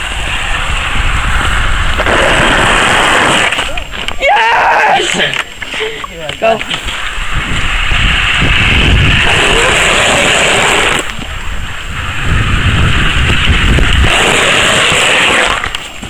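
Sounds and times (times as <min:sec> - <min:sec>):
skateboard wheels rolling on pavement: 0:00.0 - 0:16.0.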